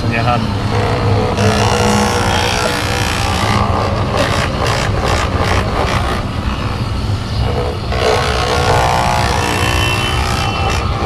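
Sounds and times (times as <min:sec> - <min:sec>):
street traffic: 0:00.0 - 0:11.0
electric massager buzzing: 0:00.5 - 0:11.0.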